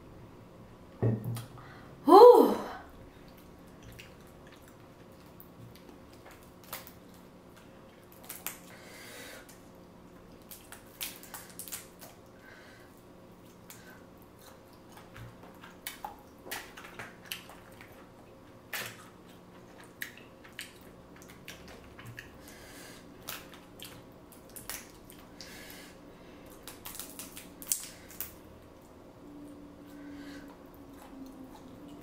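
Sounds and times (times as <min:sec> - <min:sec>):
wet chewing and smacking: 0:03.2 - 0:08.8, 0:09.4 - 0:25.8, 0:26.4 - 0:32.0.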